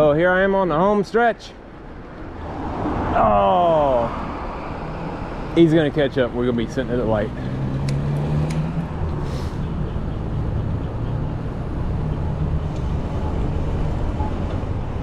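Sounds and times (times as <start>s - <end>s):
vehicle engines on street: 0.0s - 15.0s.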